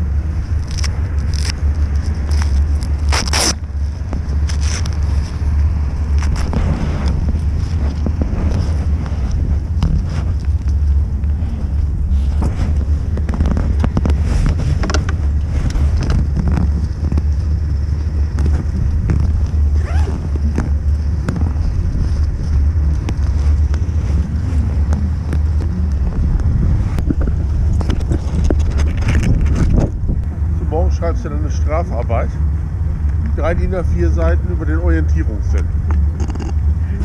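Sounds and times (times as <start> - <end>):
wind rumbling on microphone: 0.0 - 37.0
gloved hands rustling gear: 0.3 - 30.0.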